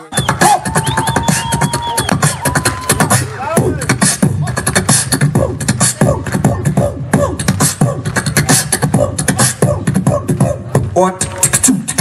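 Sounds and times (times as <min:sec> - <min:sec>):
hip-hop music over loudspeakers: 0:00.0 - 0:12.0
rapped vocals: 0:00.0 - 0:12.0
heavy drum beat: 0:00.2 - 0:11.0.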